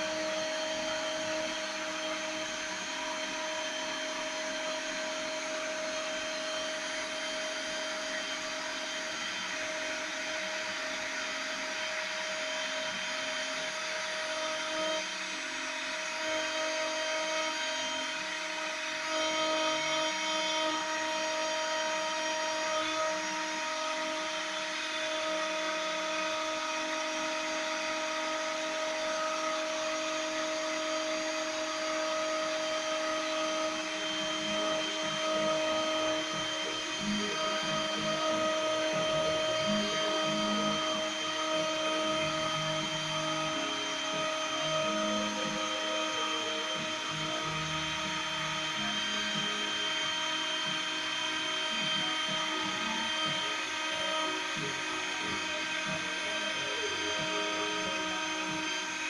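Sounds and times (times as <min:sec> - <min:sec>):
cnc router spindle whining: 0:00.0 - 0:59.0.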